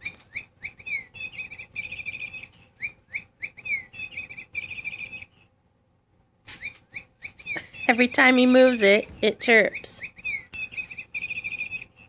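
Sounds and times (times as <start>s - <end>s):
electronic bird toy chirping: 0.0s - 5.4s, 6.5s - 8.4s, 9.2s - 12.0s.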